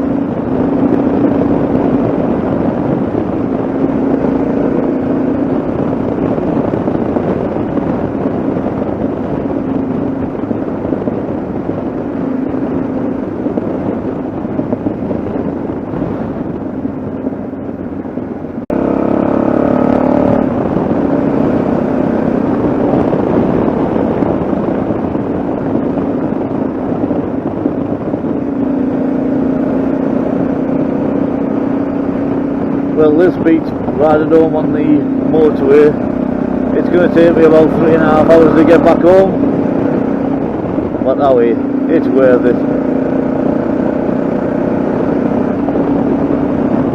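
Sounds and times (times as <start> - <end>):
motorcycle engine running: 0.0 - 46.9
wind noise: 0.0 - 46.9.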